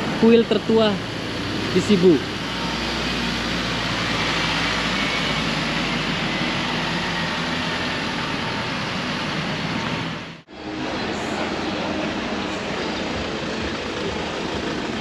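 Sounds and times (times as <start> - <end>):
passing cars: 0.0 - 15.0
passing truck: 0.0 - 15.0.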